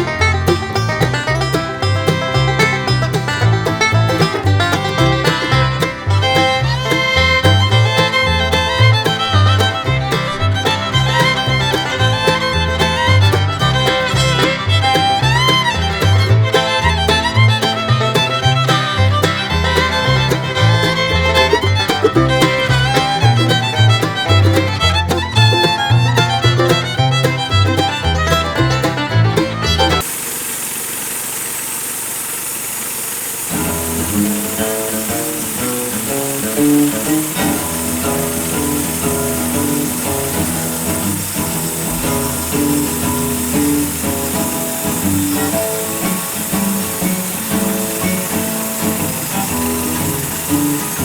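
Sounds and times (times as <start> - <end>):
banjo: 0.0 - 30.1, 33.4 - 51.0
fiddle: 0.0 - 30.1, 33.4 - 51.0
plucked bass: 0.0 - 30.1, 33.5 - 51.0.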